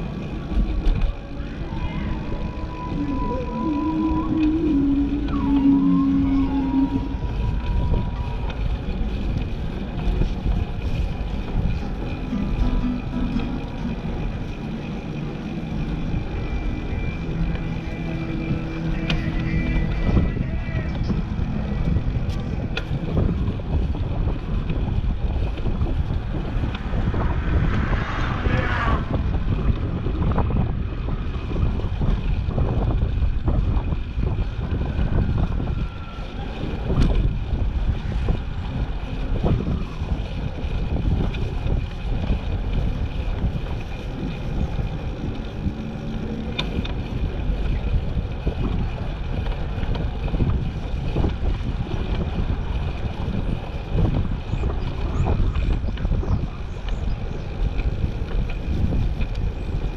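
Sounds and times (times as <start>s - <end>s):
wind buffeting the microphone: 0.0s - 59.9s.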